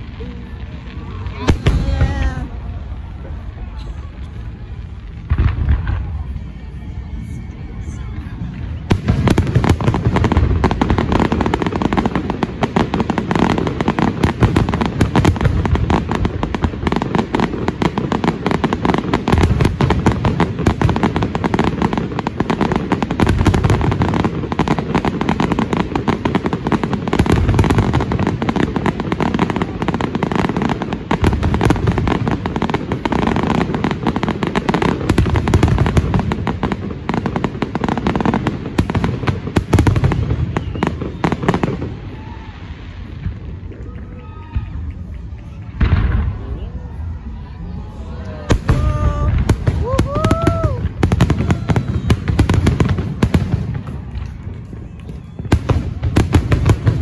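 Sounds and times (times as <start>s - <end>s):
deep firework booms: 0.0s - 3.1s, 5.0s - 6.4s, 8.8s - 43.8s, 45.7s - 46.7s, 48.5s - 57.0s
firework crackling: 0.0s - 57.0s.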